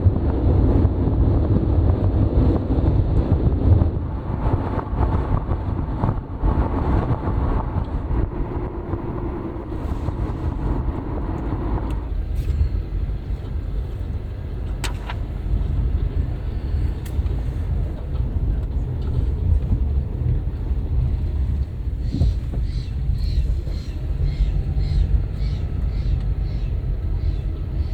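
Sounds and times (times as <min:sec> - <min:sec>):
car road and engine rumble: 0:00.0 - 0:27.9.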